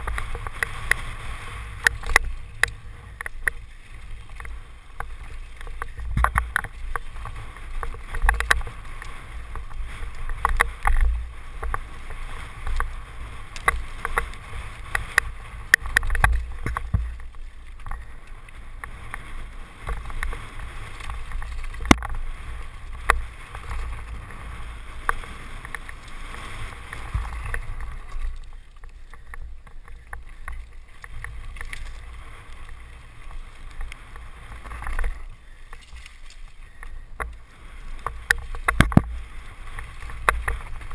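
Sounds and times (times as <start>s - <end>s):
mountain bike frame rattling: 0.0s - 40.9s
tyre noise on dirt: 0.0s - 40.9s
wind rumbling on microphone: 0.0s - 40.9s.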